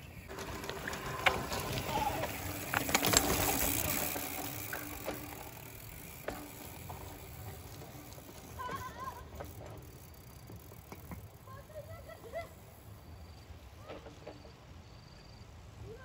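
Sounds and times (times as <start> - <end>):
bike tyre noise: 0.0 - 14.6
bike clicks and rattles: 0.0 - 14.7.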